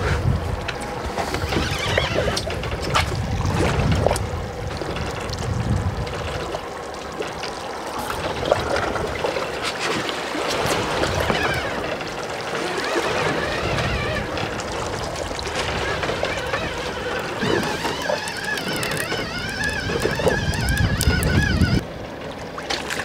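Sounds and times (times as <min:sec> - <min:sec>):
low wind rumble: 0:00.0 - 0:22.7
water lapping against boat hull: 0:00.0 - 0:23.0.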